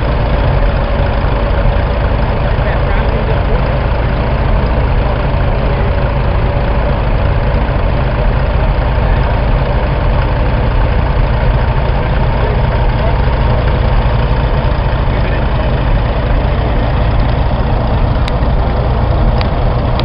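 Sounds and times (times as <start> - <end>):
tractor engine and threshing machinery: 0.0 - 20.0.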